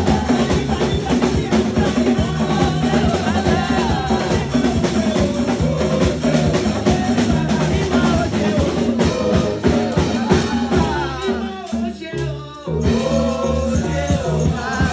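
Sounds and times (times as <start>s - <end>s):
drum kit beat: 0.0s - 11.9s, 12.9s - 14.9s
bass: 0.0s - 14.9s
voices singing: 0.0s - 14.9s.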